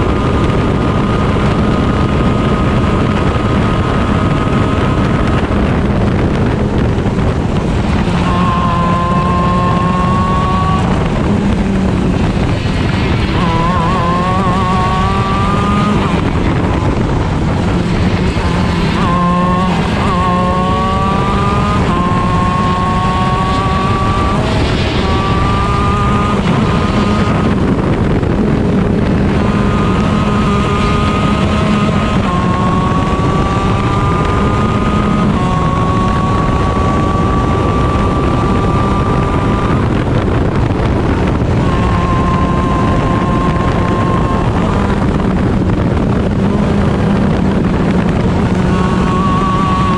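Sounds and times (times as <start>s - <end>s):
kart engine at racing speed: 0.0s - 49.9s
wind noise: 0.0s - 49.9s.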